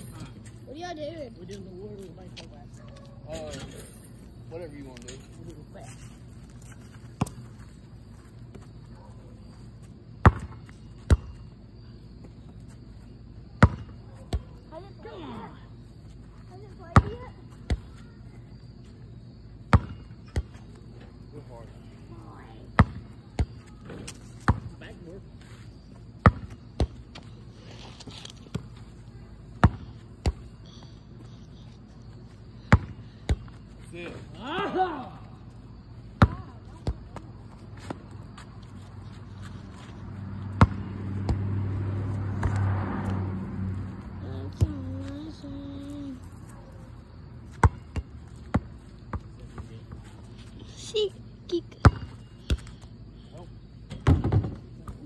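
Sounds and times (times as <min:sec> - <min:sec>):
basketball bouncing on asphalt: 0:04.9 - 0:34.0, 0:35.8 - 0:45.4, 0:47.2 - 0:50.5, 0:51.7 - 0:53.0, 0:53.6 - 0:55.0.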